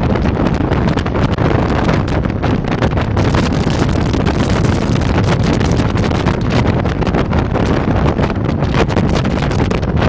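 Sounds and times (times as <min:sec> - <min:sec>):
boat engine: 0:00.0 - 0:10.0
wind buffeting microphone: 0:00.0 - 0:10.0.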